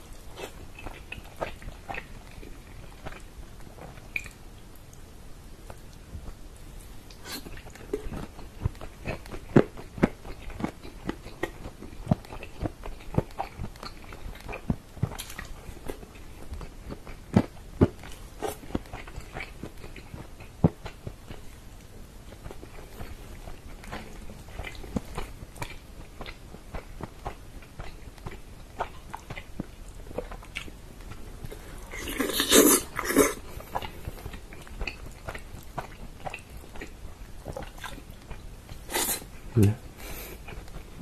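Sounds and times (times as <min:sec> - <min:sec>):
chewing and wet mouth smacks: 0:00.2 - 0:05.0, 0:07.1 - 0:39.2.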